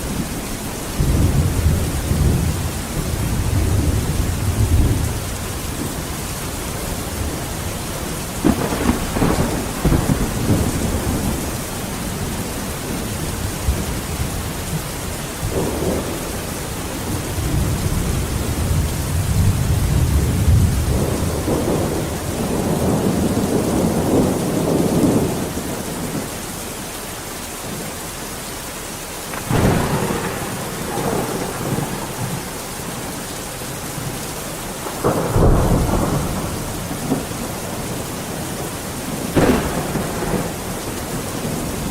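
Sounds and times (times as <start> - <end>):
heavy rain: 0.0 - 41.9
thunder rolling: 1.0 - 26.3, 29.3 - 41.9.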